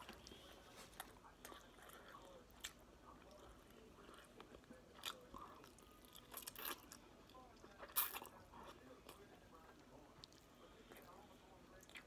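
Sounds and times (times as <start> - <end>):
chewing noodles: 0.0 - 12.0.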